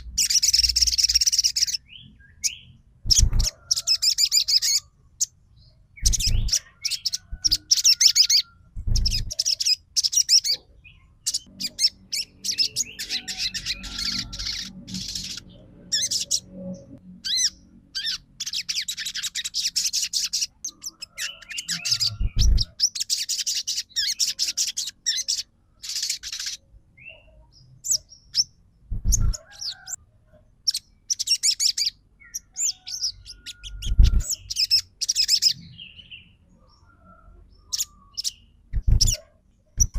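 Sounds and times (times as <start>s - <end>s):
bird twittering song: 0.0s - 30.0s, 30.6s - 39.9s.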